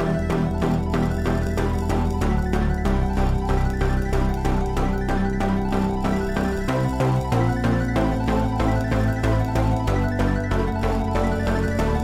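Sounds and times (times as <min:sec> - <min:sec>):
background music with quick beat: 0:00.0 - 0:12.0.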